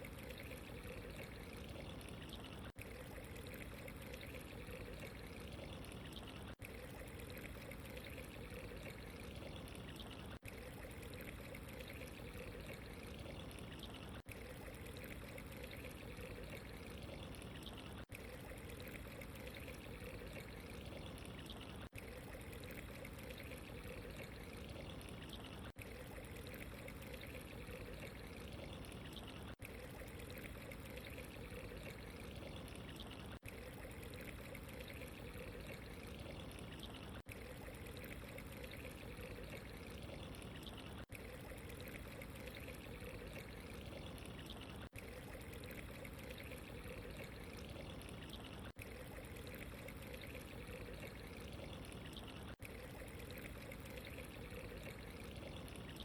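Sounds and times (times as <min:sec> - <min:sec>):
running trickling water: 0:00.0 - 0:56.0.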